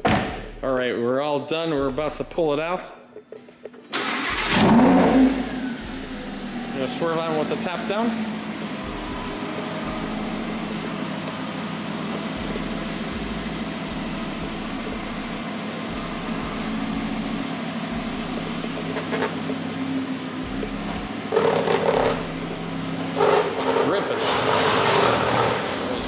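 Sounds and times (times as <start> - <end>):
car engine running at low revs: 4.3 - 26.0.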